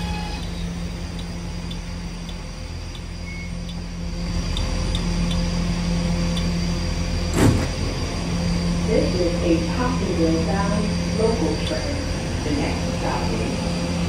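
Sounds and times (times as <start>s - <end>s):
subway train rolling to a stop: 0.0s - 14.0s.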